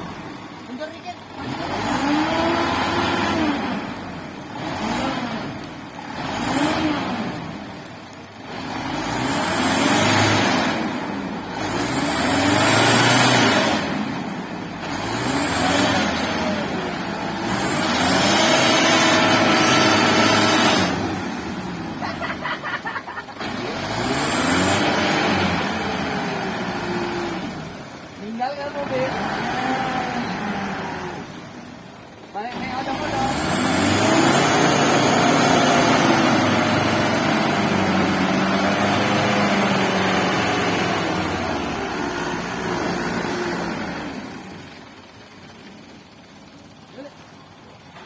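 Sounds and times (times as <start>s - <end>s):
truck engine revving: 0.0s - 48.0s.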